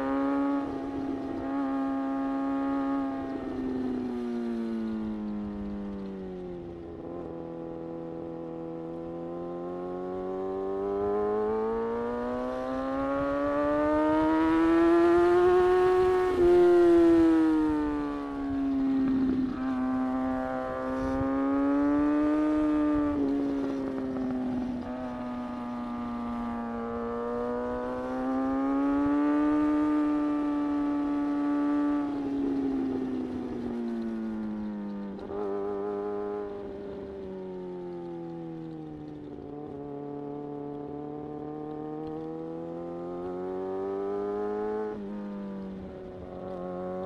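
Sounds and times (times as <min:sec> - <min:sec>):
motorcycle engine revving at speed: 0:00.0 - 0:47.0.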